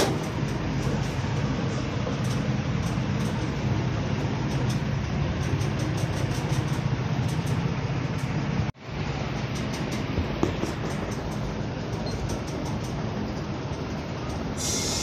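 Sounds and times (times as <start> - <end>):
pump rumbling and hissing: 0.0 - 15.0.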